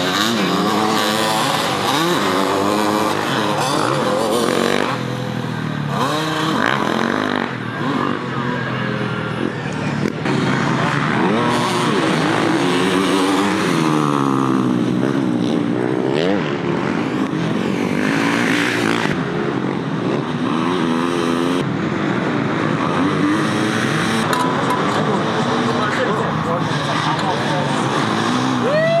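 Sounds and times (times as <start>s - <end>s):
motocross bikes revving: 0.0s - 29.0s.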